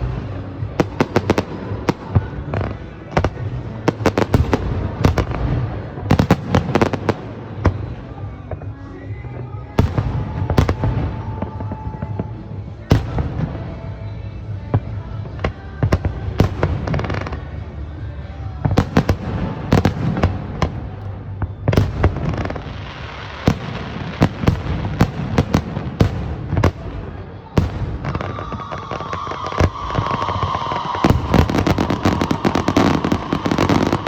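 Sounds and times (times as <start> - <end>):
firework bangs and crackles: 0.0 - 34.0.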